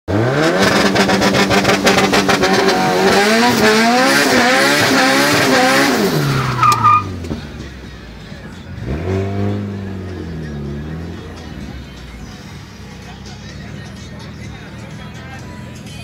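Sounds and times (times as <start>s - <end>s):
car engine revving: 0.1s - 16.0s.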